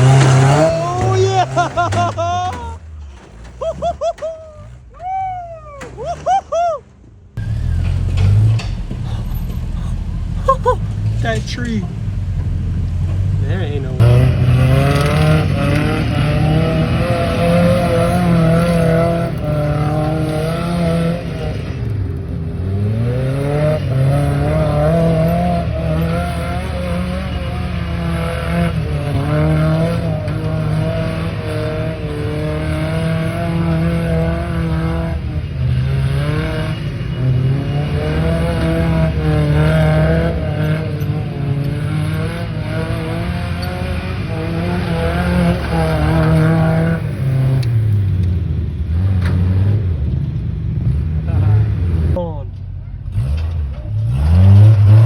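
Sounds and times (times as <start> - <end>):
engine running at high revs: 0.0 - 4.3, 7.4 - 52.2, 53.1 - 55.0.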